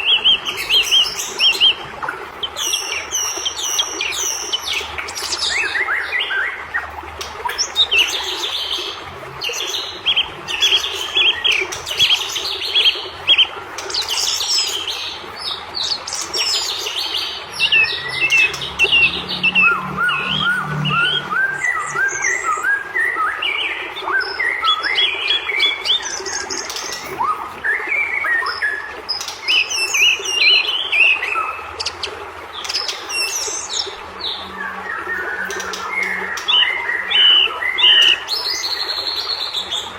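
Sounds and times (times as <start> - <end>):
bird singing: 2.4 - 6.6, 7.5 - 39.9.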